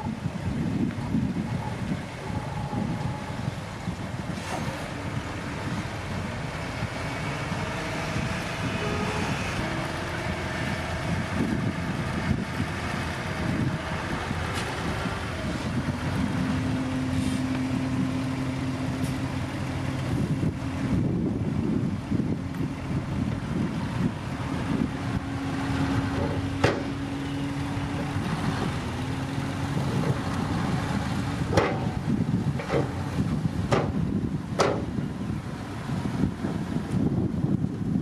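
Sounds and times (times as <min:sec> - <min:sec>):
heavy diesel machinery rumbling: 0:00.0 - 0:38.0
wind buffeting microphone: 0:00.0 - 0:38.0.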